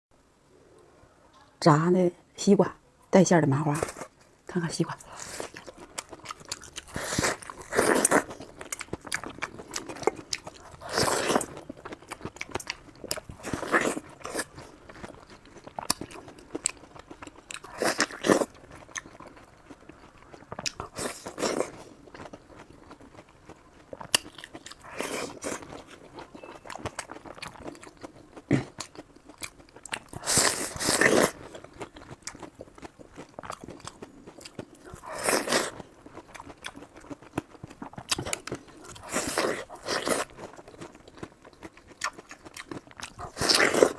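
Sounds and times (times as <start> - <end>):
crunching of crunchy food: 5.0 - 43.9
wet chewing: 5.0 - 43.9.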